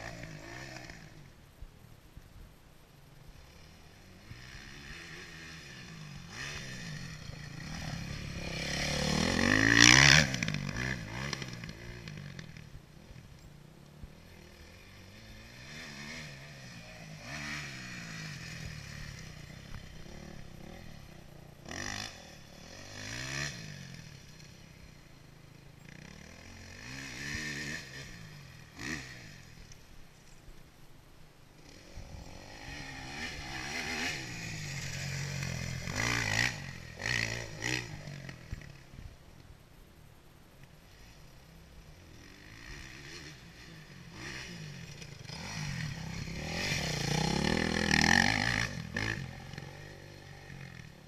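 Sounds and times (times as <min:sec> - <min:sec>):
dirt bike passing close: 0:00.0 - 0:01.3, 0:03.3 - 0:30.4, 0:31.5 - 0:39.2, 0:40.8 - 0:51.0
dirt bike engines revving: 0:00.0 - 0:01.4, 0:03.0 - 0:30.8, 0:31.4 - 0:51.0.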